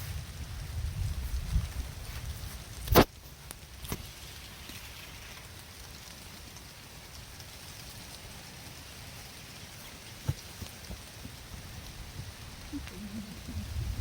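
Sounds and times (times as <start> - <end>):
rain on a metal roof: 0.0 - 14.0.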